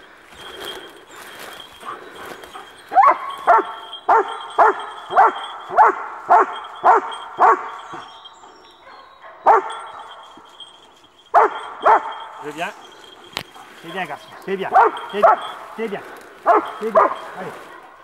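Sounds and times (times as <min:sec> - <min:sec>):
dog barking: 0:01.8 - 0:08.2, 0:08.8 - 0:10.7, 0:11.3 - 0:18.0.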